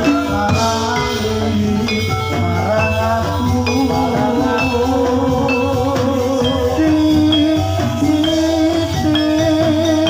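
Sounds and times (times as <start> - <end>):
drum rhythm: 0.0 - 10.0
gamelan music: 0.0 - 10.0
rattling percussion: 0.0 - 10.0.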